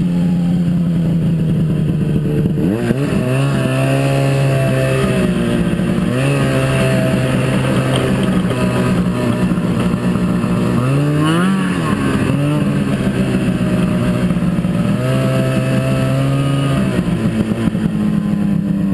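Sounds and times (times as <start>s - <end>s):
snowmobile engine revving: 0.0s - 18.9s.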